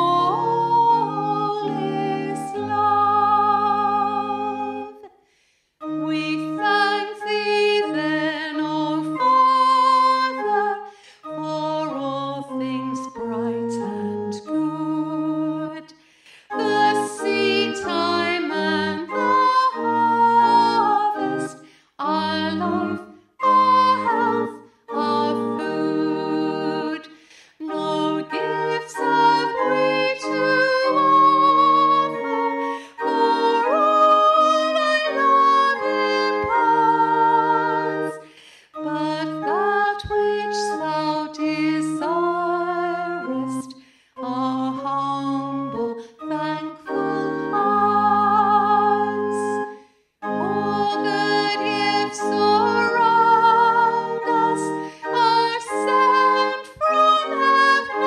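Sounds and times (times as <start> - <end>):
held instrumental chords: 0.0 - 5.0, 5.8 - 15.8, 16.5 - 58.0
woman singing a hymn: 0.0 - 5.1, 5.8 - 58.0.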